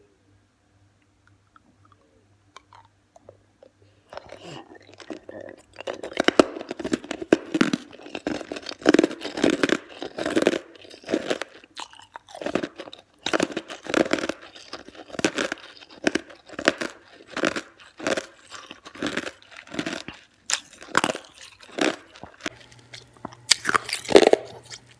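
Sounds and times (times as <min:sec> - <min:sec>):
ice crunching being chewed: 0:01.5 - 0:24.9.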